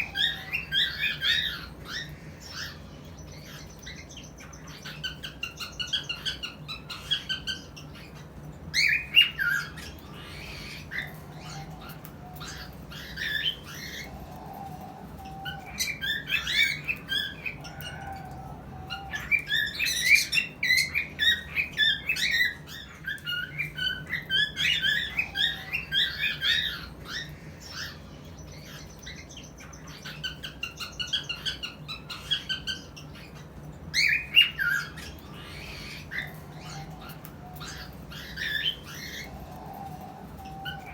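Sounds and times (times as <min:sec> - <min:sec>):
cockatiels chirping and squawking: 0:00.0 - 0:40.9
faint steady hum: 0:00.0 - 0:40.9.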